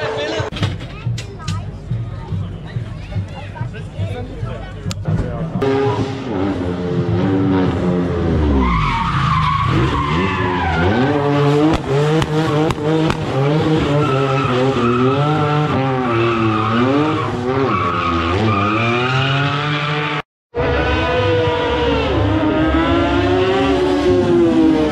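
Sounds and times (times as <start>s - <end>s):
car engine revving: 2.0s - 24.9s.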